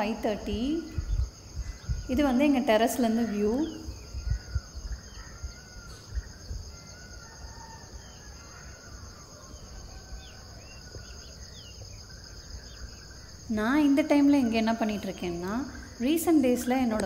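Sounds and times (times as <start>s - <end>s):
bird chirps: 0.0s - 17.0s
crickets trilling: 0.0s - 17.0s.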